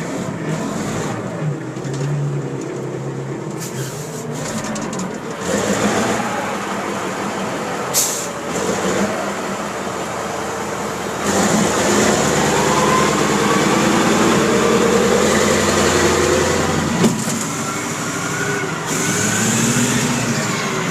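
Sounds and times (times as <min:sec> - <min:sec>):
truck diesel engine running: 0:00.0 - 0:20.9.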